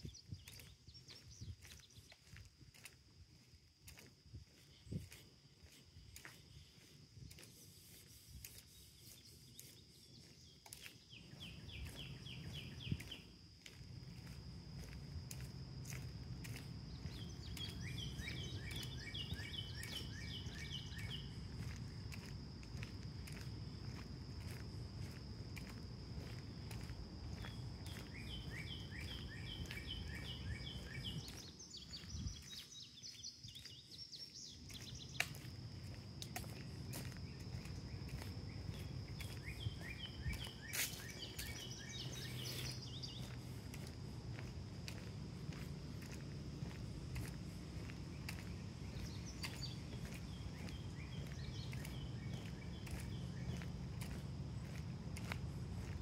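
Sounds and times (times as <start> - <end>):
low rumble from walking: 0.0 - 7.7, 9.2 - 56.0
footsteps on paved trail: 0.0 - 56.0
high insect drone: 0.0 - 56.0
songbirds chirping: 0.0 - 56.0.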